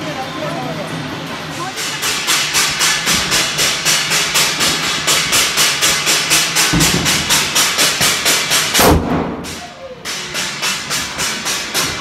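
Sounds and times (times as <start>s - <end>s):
steel plates beaten rhythmically: 1.4s - 12.0s.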